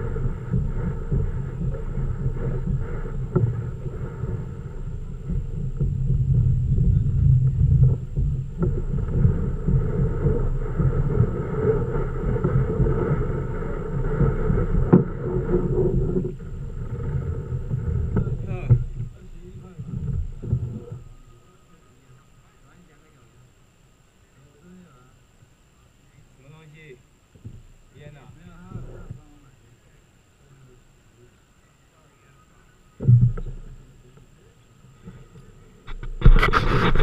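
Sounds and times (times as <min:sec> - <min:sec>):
muffled water and wind rumble: 0:00.0 - 0:37.0.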